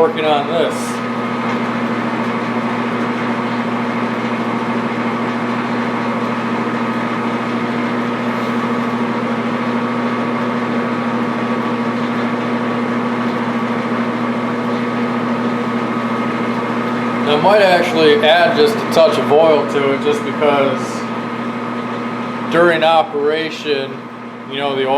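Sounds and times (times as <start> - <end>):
metal lathe motor and gearbox hum: 0.0 - 24.9.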